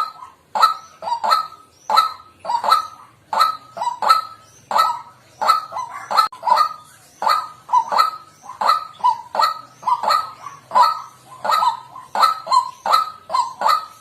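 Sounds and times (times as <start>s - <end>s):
waterhen harsh kwak calls: 0.0s - 14.0s.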